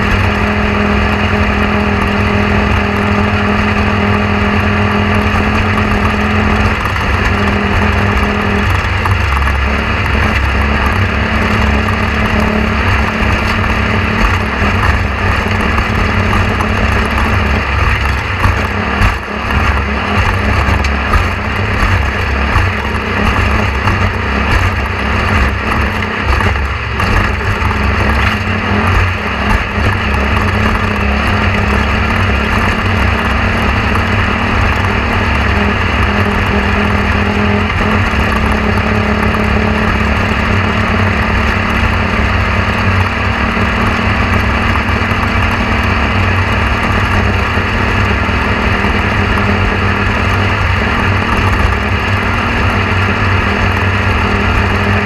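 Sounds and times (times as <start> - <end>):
motor vehicle running: 0.0 - 55.0.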